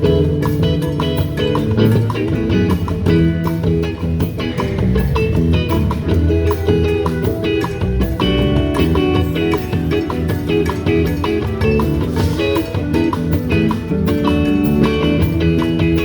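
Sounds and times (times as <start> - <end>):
bass: 0.0 - 16.0
guitar: 0.0 - 16.0
steady drum beat: 0.0 - 16.0.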